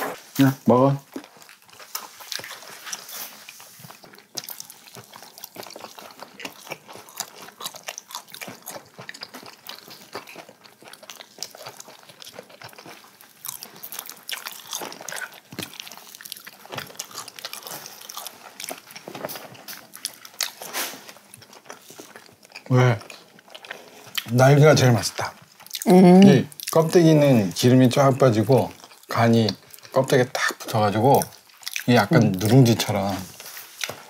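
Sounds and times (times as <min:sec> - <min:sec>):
chewing and mouth smacks: 0:01.1 - 0:24.4, 0:25.2 - 0:26.9, 0:28.6 - 0:32.6.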